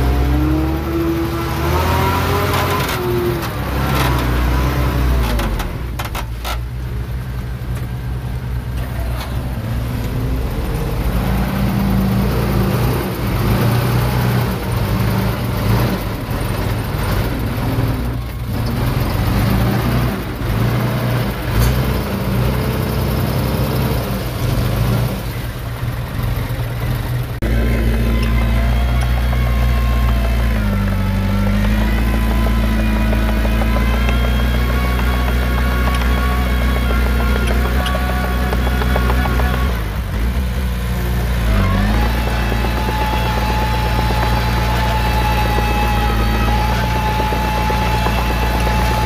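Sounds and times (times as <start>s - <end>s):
heavy machinery diesel engine: 0.0s - 49.0s.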